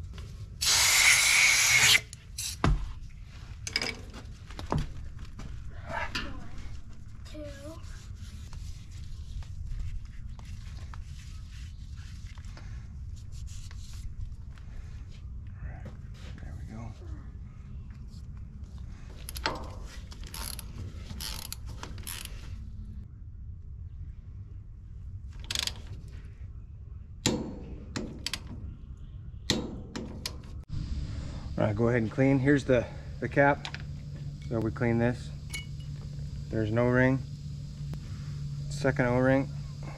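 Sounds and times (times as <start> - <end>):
low steady hum: 1.5 - 39.9
steady low rumble: 2.3 - 39.9.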